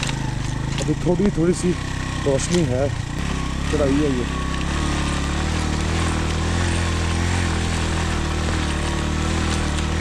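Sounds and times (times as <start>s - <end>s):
motorcycle engine under load: 0.0s - 10.0s.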